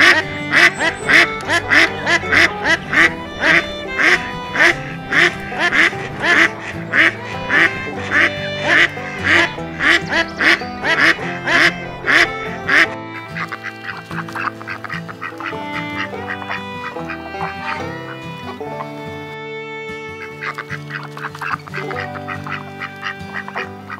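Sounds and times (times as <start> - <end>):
duck quacking: 0.0 - 19.4, 20.2 - 23.9
background music: 0.0 - 23.9.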